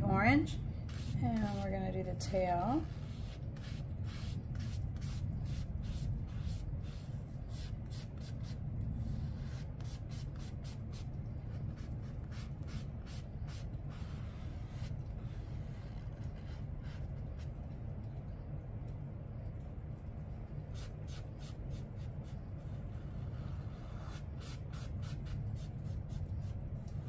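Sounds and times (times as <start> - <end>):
low hum: 0.0 - 27.0
paintbrush stroking paper: 0.8 - 1.8, 2.8 - 17.5, 20.7 - 27.0.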